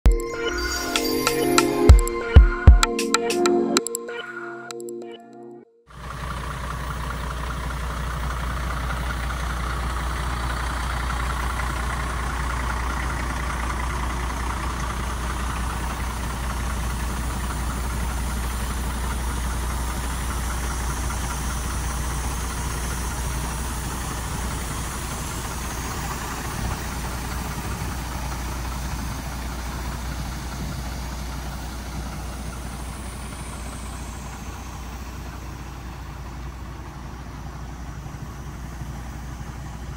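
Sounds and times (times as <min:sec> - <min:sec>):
truck diesel engine idling: 0:05.9 - 0:39.9.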